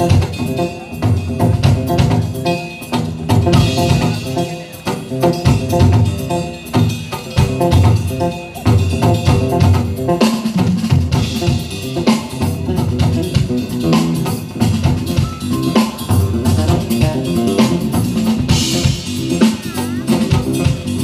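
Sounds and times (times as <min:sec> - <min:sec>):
drum kit: 0:00.0 - 0:21.0
electric bass guitar: 0:00.0 - 0:21.0
jazz band playing: 0:00.0 - 0:21.0.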